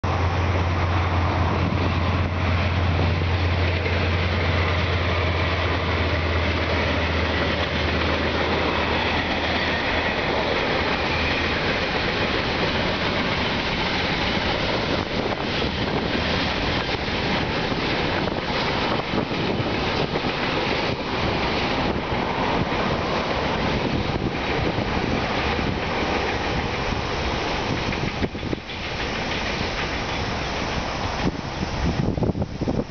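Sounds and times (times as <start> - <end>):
freight wagons rumbling past: 0.0 - 32.9
locomotive engine drone: 0.0 - 32.9
wheels clicking over rail joints: 1.6 - 32.9.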